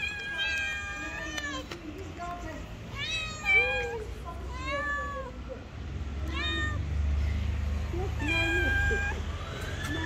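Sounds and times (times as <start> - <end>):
cats meowing: 0.0 - 5.4, 6.1 - 7.0, 8.0 - 10.0.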